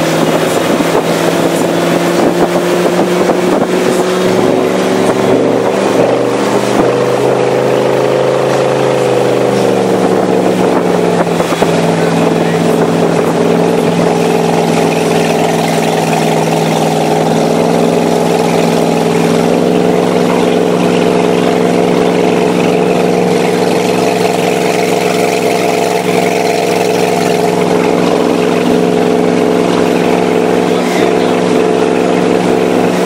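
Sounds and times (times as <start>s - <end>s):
motorboat engine running: 0.0s - 33.0s
wake and wind rushing: 0.0s - 33.0s.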